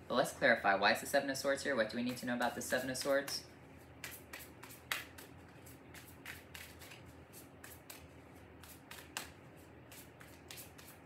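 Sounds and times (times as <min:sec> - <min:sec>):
cards being shuffled: 0:02.1 - 0:11.0.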